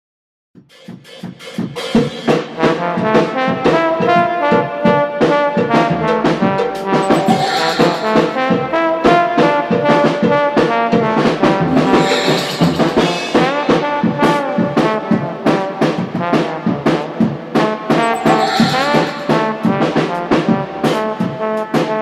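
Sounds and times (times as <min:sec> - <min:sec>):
steady drum beat: 0:00.6 - 0:21.6
upbeat brass tune: 0:01.7 - 0:22.0.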